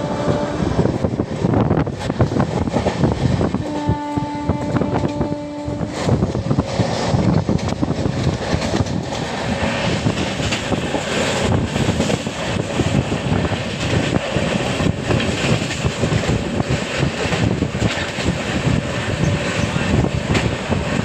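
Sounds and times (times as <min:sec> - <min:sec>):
train running: 0:00.0 - 0:21.0.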